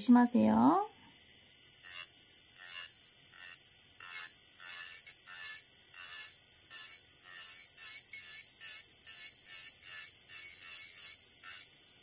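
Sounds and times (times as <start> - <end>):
electric nail drill whirring: 1.5 - 12.0.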